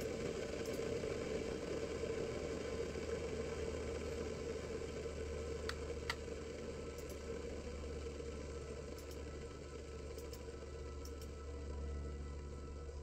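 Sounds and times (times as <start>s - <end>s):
low mechanical hum and rumble: 0.0s - 13.0s.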